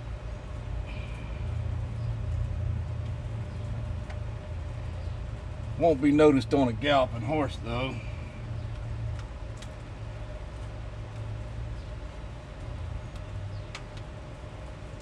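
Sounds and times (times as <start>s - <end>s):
faint steady hum: 0.0s - 15.0s
low outdoor rumble: 0.0s - 15.0s.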